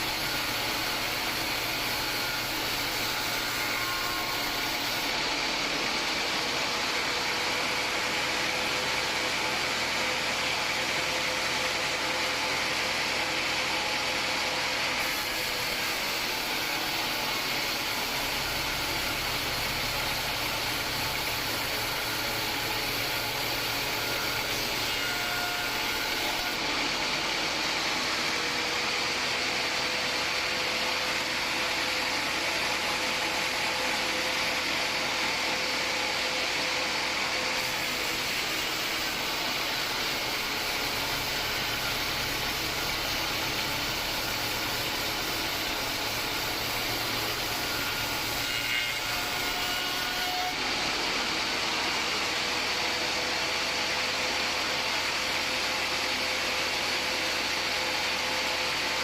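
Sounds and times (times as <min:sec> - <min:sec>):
band sawmill running with whine: 0:00.0 - 0:59.0.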